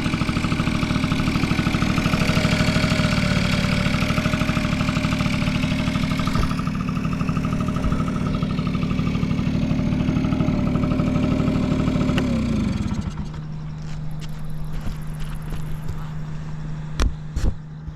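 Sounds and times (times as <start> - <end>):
low hum: 0.0 - 17.9
scooter engine idling: 0.0 - 17.9.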